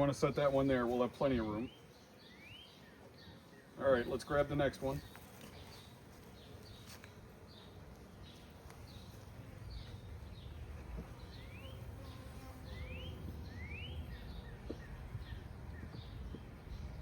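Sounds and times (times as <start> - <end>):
honeybees buzzing: 0.0 - 17.0
bird chirping: 1.4 - 4.2, 4.9 - 17.0.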